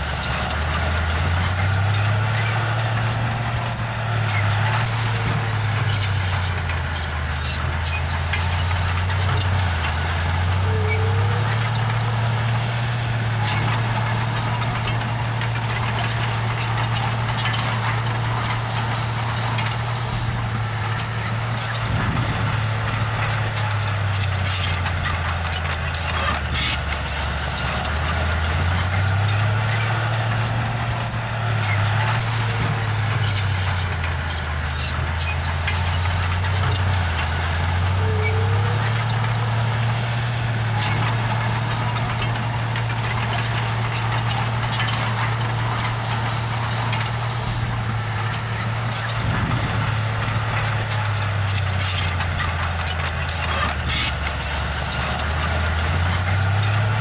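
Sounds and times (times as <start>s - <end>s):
bulldozer diesel engine running: 0.0s - 57.0s
faint clicks and clanks: 0.1s - 57.0s.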